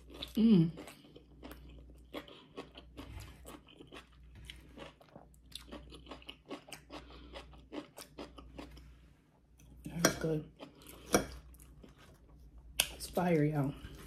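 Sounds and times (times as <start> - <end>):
person chewing crunchy food: 0.0 - 9.8, 10.6 - 13.0.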